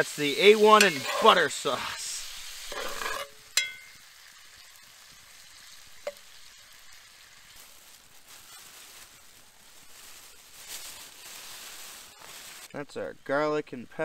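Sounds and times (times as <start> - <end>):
meat sizzling in a skillet: 0.0 - 12.8.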